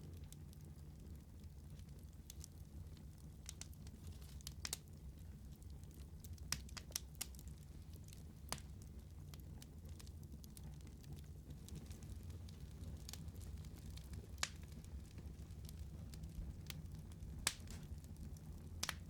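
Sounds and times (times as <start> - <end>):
low rumble of burning: 0.0 - 19.0
wood fire pops and snaps: 0.1 - 19.0.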